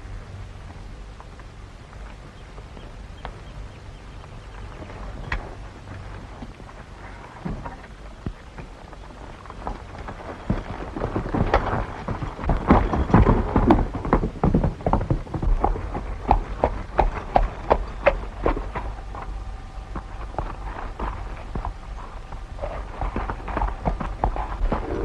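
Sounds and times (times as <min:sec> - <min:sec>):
horses galloping hoofbeats: 0:00.0 - 0:25.0.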